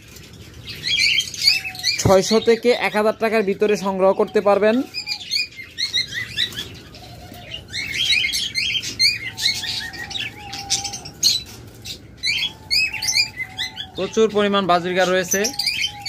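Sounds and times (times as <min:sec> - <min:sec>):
budgerigars chattering: 0:00.4 - 0:16.0.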